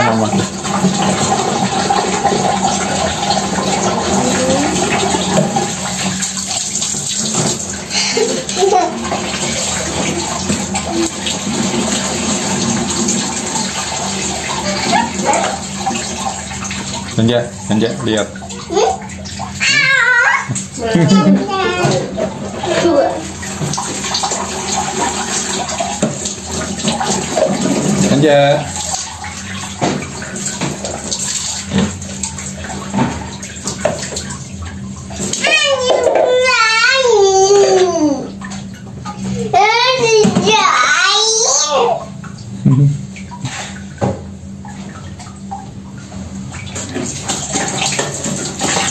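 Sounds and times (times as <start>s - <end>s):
tap water splashing into bucket: 0.0s - 39.2s, 39.8s - 48.9s.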